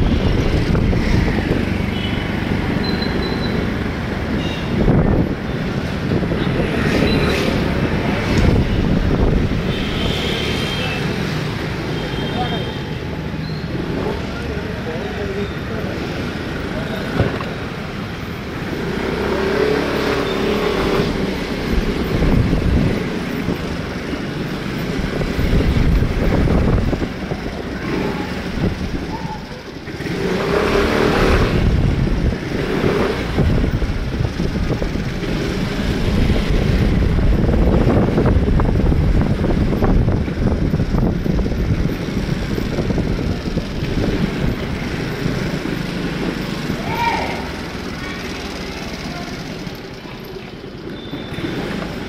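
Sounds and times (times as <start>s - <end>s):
car engines passing: 0.0s - 52.0s
motorcycle engines passing: 0.0s - 52.0s.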